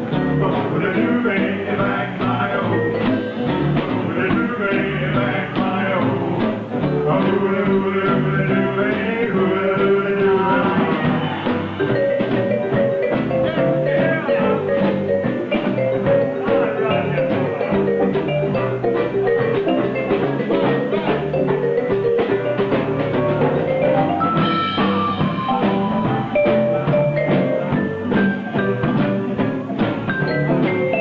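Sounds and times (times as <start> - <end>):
live band playing: 0.0 - 31.0.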